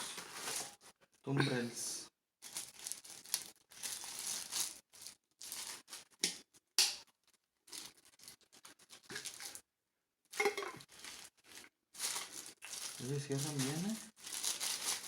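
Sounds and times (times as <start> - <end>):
packaging crinkling and tearing: 0.0 - 0.9, 2.4 - 9.6, 10.8 - 15.0.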